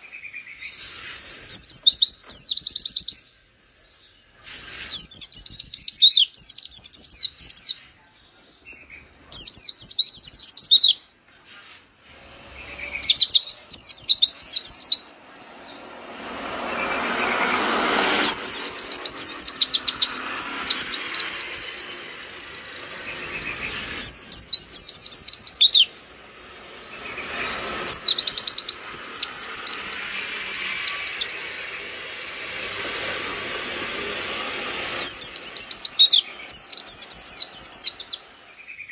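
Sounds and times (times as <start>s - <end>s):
bird twittering chirps: 0.0s - 38.9s.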